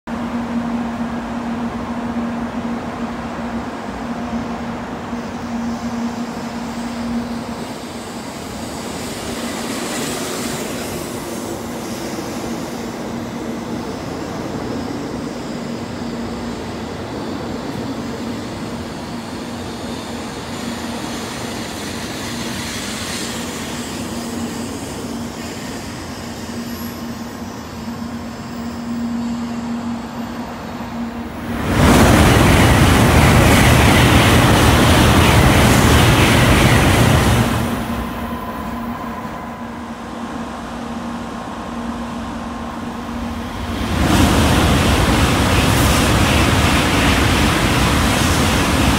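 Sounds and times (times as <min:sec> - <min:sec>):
train rumbling: 0:00.1 - 0:48.9.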